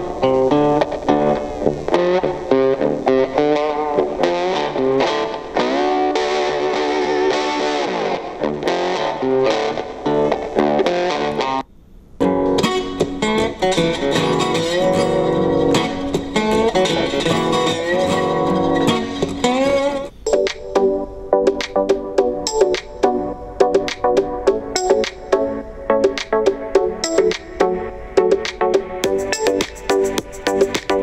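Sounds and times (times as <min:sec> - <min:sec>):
guitar music through small speaker: 0:00.0 - 0:31.0.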